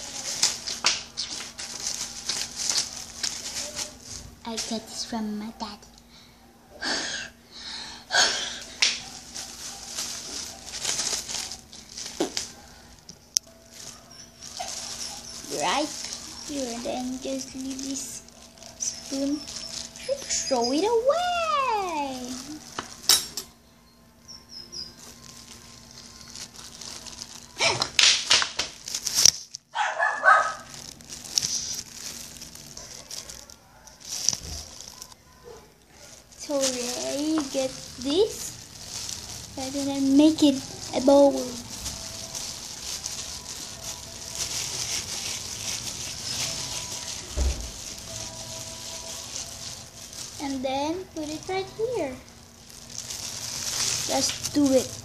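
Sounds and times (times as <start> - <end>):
plastic glove crinkling: 0.0 - 6.1, 8.1 - 23.4, 24.3 - 55.0.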